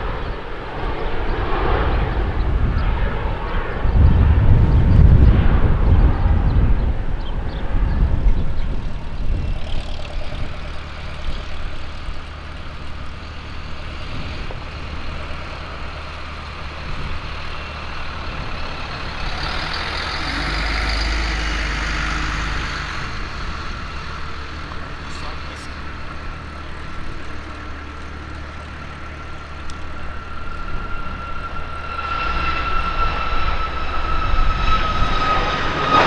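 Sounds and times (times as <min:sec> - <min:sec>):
airplane climbing rumble: 0:00.0 - 0:36.0
jet engine hiss and whine: 0:00.0 - 0:36.0
jet engines rumbling: 0:00.0 - 0:36.0.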